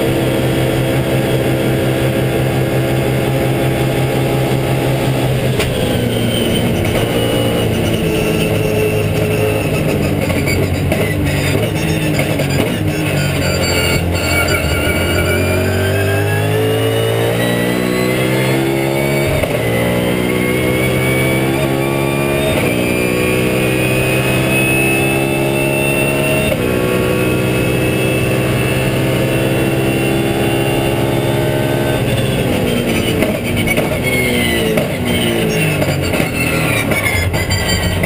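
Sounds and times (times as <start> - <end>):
race car engine at full throttle: 0.0 - 38.0.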